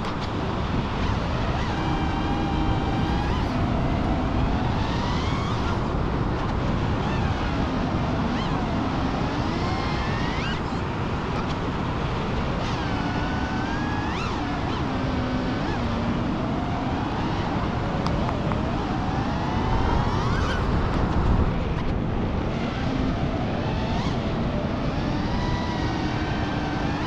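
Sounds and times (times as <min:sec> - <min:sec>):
wind noise: 0:00.0 - 0:27.0
quadcopter motors whining: 0:00.1 - 0:27.0.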